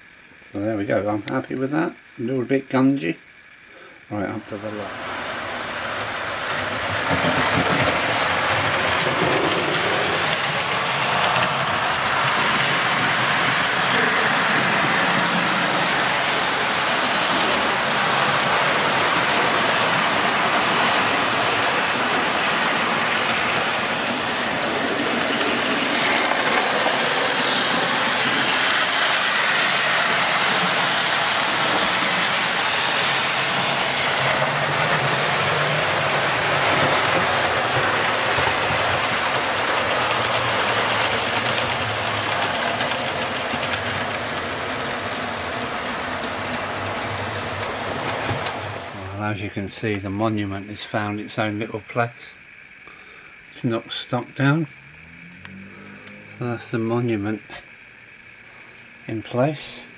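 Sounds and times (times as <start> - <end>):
model trains whirring and rattling: 0.0 - 59.9.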